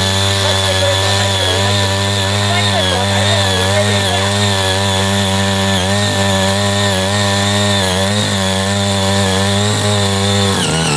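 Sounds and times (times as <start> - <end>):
power tiller engine running: 0.0 - 10.9.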